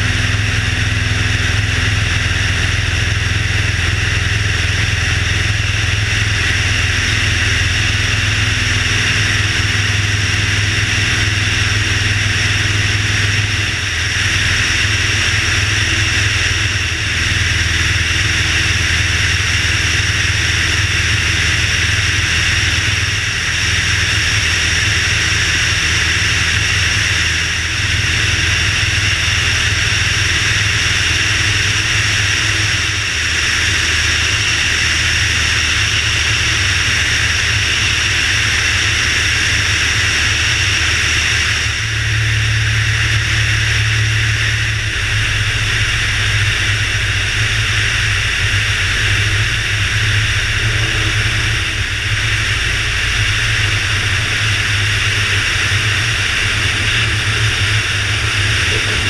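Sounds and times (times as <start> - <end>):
propeller aircraft engine running: 0.0 - 59.0.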